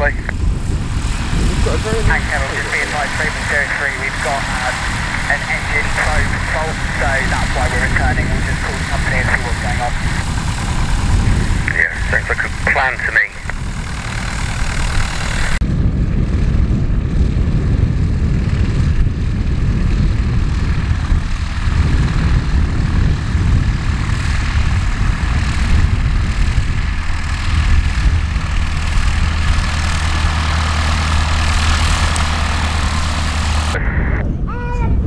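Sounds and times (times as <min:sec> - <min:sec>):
propeller aircraft engine drone: 0:00.0 - 0:35.0.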